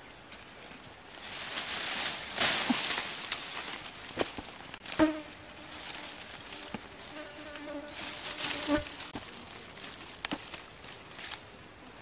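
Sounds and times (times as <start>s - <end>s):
leafy branches rustling: 0.0s - 12.0s
insect buzzing: 0.9s - 12.0s.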